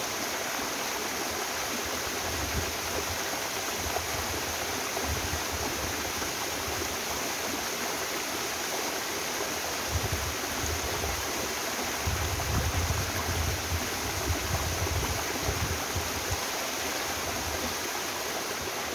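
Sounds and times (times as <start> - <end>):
waterfall and stream rushing: 0.0 - 18.9.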